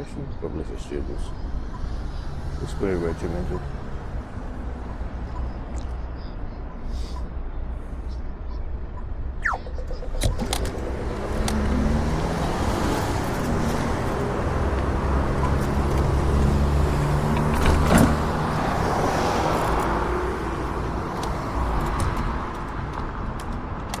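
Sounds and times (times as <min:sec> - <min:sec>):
wind and tyre noise: 0:00.0 - 0:24.0.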